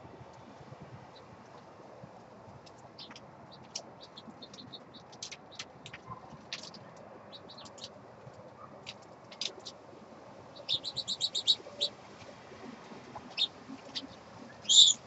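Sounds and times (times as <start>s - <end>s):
small songbirds chirping: 2.5s - 15.0s.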